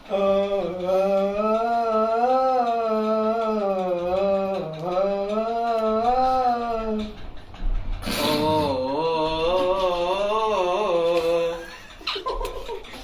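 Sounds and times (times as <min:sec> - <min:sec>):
man singing without words: 0:00.0 - 0:07.2, 0:08.1 - 0:11.8.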